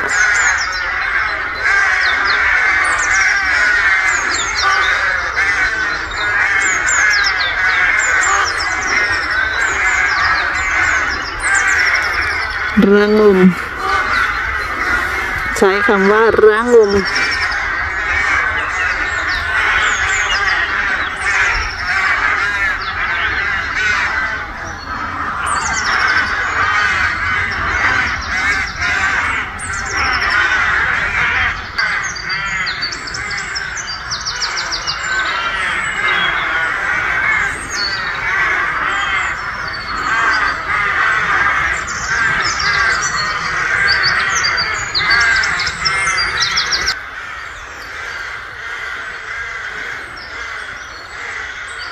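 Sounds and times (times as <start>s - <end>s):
rooks cawing: 0.0s - 51.9s.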